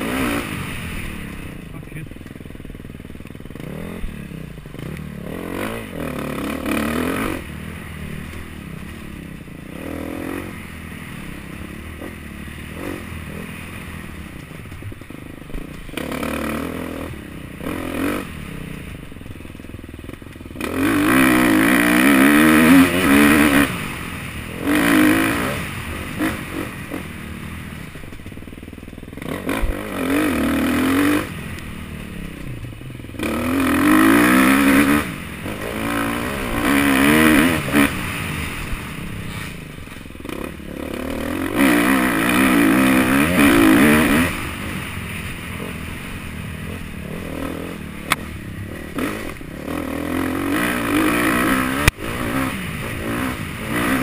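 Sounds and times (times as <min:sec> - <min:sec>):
bike rattling and scraping: 0:00.0 - 0:54.0
dirt bike engine revving: 0:00.0 - 0:54.0.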